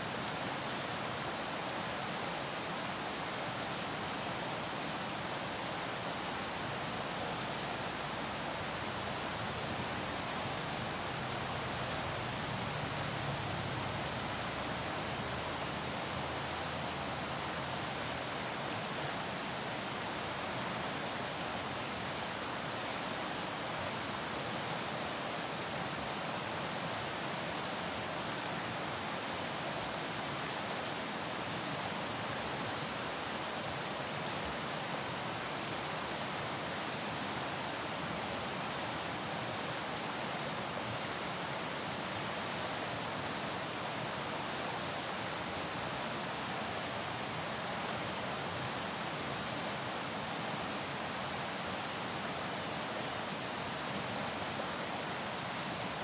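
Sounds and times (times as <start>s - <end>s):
river rushing over rapids: 0.0s - 56.0s.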